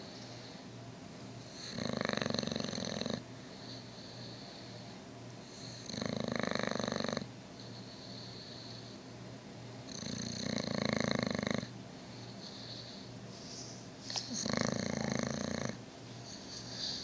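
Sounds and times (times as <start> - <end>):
dog snoring: 1.4 - 9.0, 9.9 - 13.1, 14.1 - 17.0
dog breathing: 1.4 - 9.1, 9.9 - 17.0.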